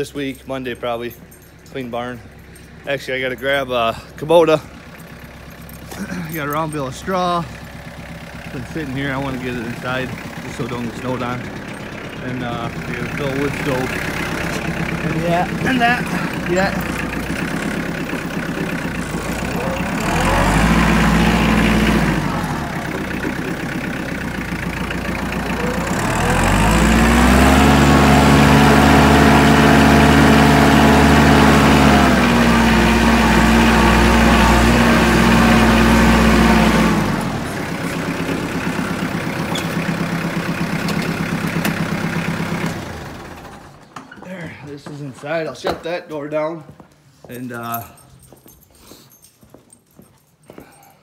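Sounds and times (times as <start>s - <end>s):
tractor diesel engine running: 0.0s - 45.5s.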